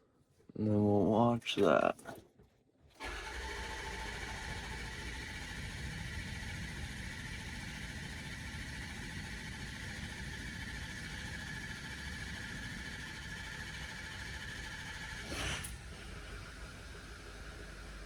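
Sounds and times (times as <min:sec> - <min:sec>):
diesel engine running: 0:03.0 - 0:18.0.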